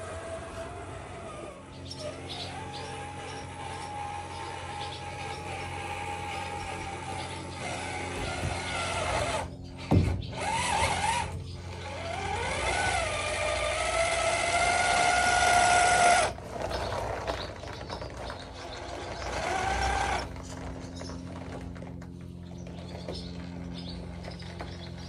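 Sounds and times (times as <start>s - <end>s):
toy car motor whining: 0.0s - 22.0s.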